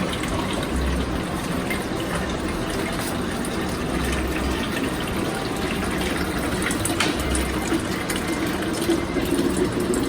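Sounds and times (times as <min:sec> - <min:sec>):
water running into a tank: 0:00.0 - 0:10.0.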